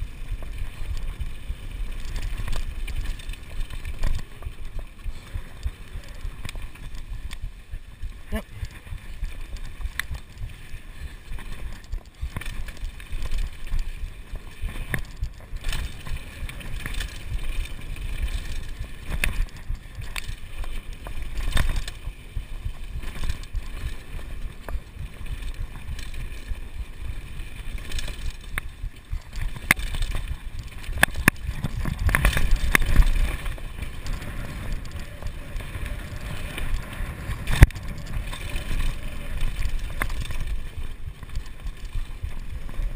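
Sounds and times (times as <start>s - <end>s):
bike rattles and knocks: 0.0s - 42.9s
tyre rumble over dirt: 0.0s - 42.9s.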